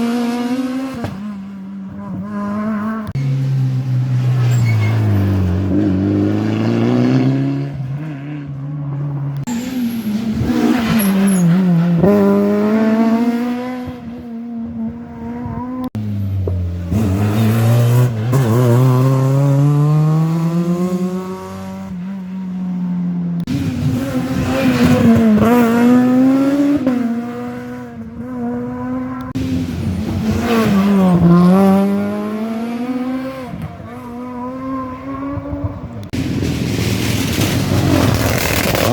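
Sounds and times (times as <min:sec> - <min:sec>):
rally cars passing: 0:00.0 - 0:38.9.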